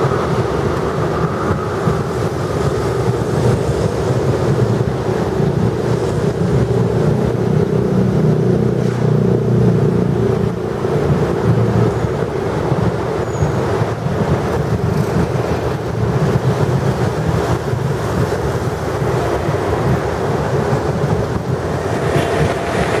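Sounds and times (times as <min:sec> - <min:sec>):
motorcycles and cars passing: 0:00.0 - 0:23.0.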